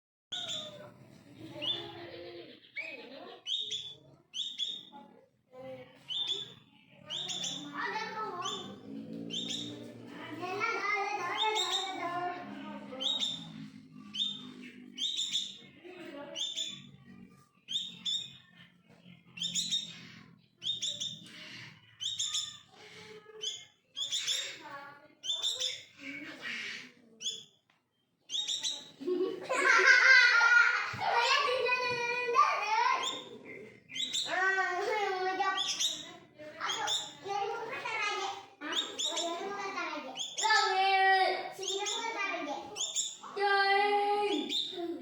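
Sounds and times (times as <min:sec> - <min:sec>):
songbird chirping: 0:00.3 - 0:45.0.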